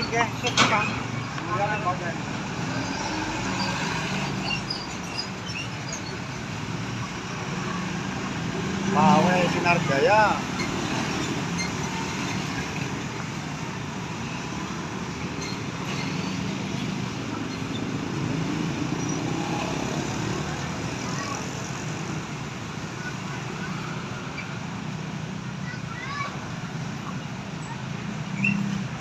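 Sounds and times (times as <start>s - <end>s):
engine rumble of passing vehicles: 0.0s - 29.0s.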